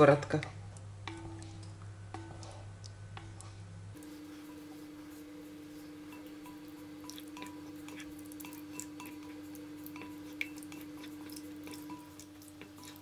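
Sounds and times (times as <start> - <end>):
steady low hum: 0.0 - 13.0
wooden spatula stirring curds: 0.0 - 13.0
liquid drips: 0.7 - 13.0
spatula tapping pot: 0.8 - 13.0.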